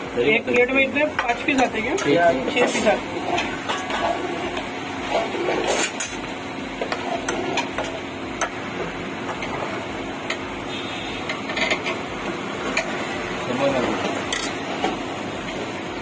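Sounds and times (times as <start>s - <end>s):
kitchen hum: 0.0s - 16.0s.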